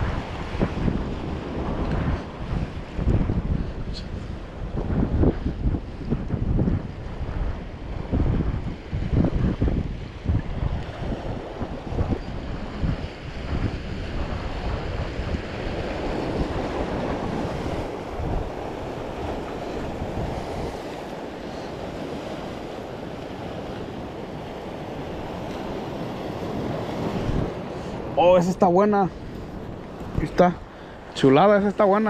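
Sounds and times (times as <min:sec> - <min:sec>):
waves washing against rocks: 0:00.0 - 0:32.0
wind buffeting microphone: 0:00.0 - 0:32.0.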